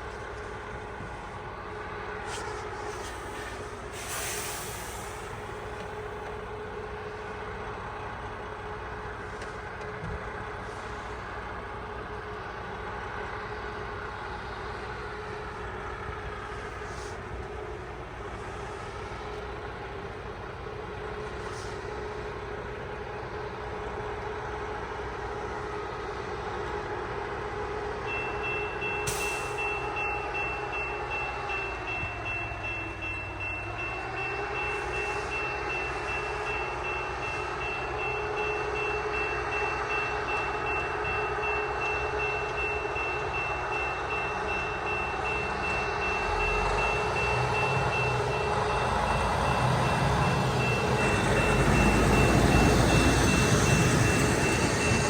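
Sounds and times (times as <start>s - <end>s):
rail machine engine drone: 0.0s - 55.0s.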